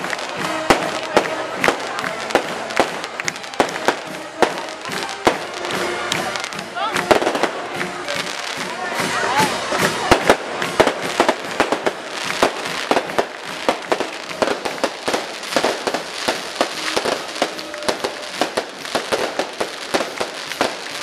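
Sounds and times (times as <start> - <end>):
firecracker bangs: 0.0 - 21.0.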